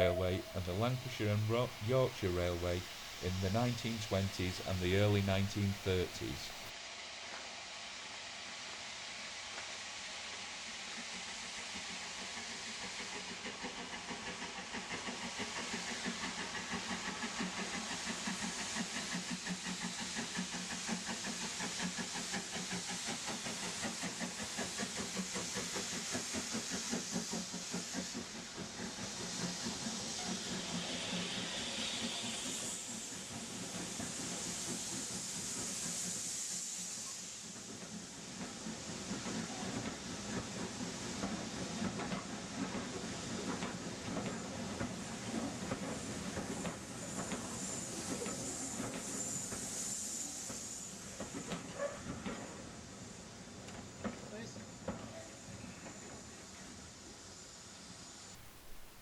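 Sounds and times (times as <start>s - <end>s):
steam locomotive exhaust beat: 0.0s - 7.4s, 8.0s - 59.0s
steam hissing: 0.0s - 59.0s.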